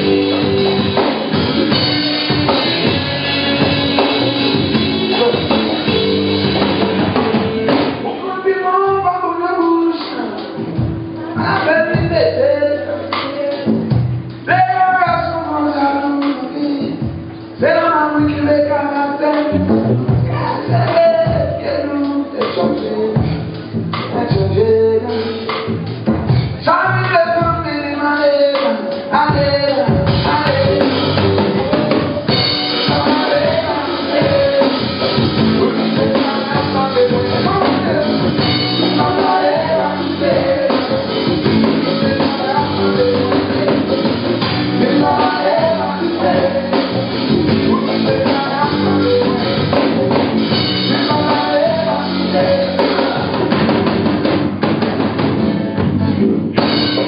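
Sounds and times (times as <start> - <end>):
drum kit beat: 0.0 - 57.0
live band playing: 0.0 - 57.0.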